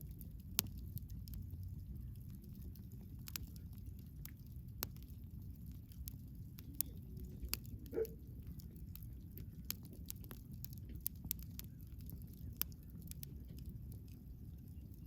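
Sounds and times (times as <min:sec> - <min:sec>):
campfire crackling and popping: 0:00.0 - 0:15.0
low steady fire rumble: 0:00.0 - 0:15.0.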